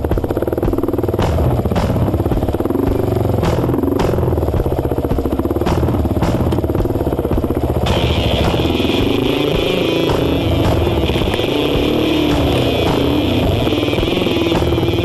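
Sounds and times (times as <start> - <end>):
bike knocking and rattling: 0.0 - 15.0
dirt bike engine running: 0.0 - 15.0.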